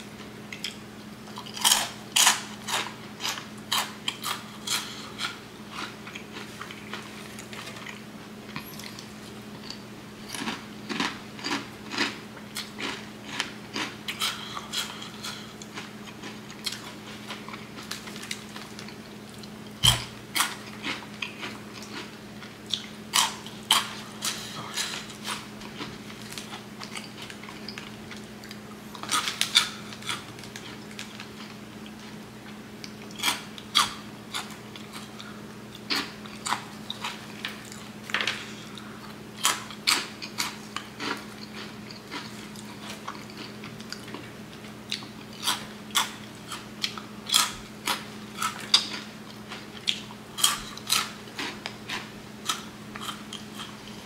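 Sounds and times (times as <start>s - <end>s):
steady low hum: 0.0s - 54.0s
crunching crisp snacks: 0.6s - 32.0s, 32.8s - 54.0s.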